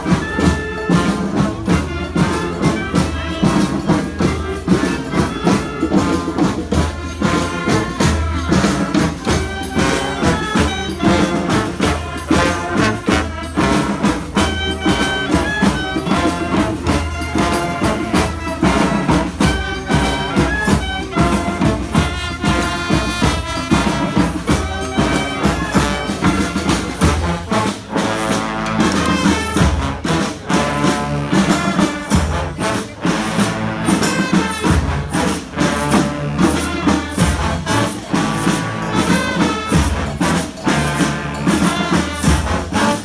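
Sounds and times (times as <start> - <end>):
brass instruments playing melody: 0.0 - 43.0
drums and percussion beat: 0.0 - 43.0.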